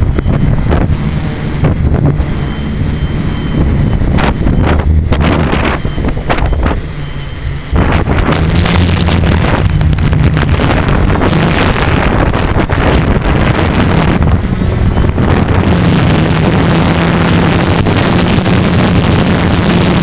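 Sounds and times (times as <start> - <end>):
drone motors droning: 0.0 - 20.0
wind buffeting microphone: 0.0 - 20.0.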